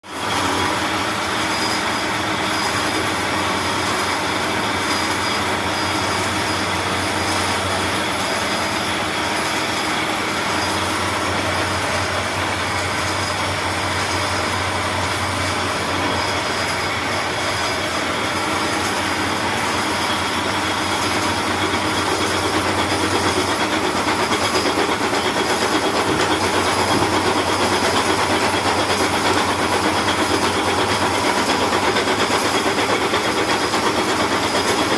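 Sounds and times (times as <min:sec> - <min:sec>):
milling machine cutting metal: 0:00.1 - 0:34.9.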